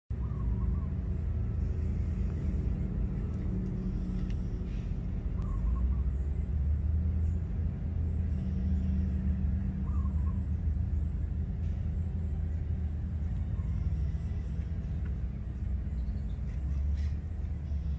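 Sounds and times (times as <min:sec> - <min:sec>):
low background rumble: 0:00.1 - 0:17.9
low hum: 0:00.1 - 0:17.9.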